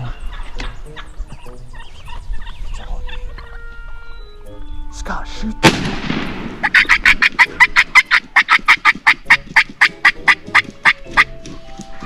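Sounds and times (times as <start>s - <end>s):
wild turkey drumming beats: 0.0s - 12.0s.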